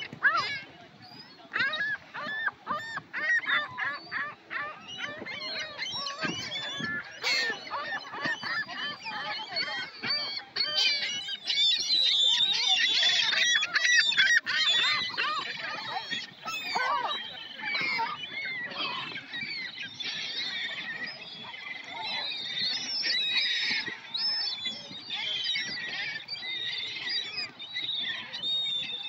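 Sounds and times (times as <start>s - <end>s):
gulls calling: 0.0s - 29.0s.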